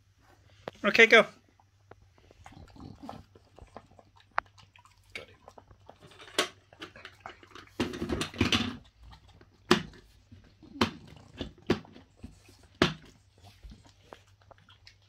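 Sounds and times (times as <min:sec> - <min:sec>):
dog chewing dry kibble: 0:01.5 - 0:15.0.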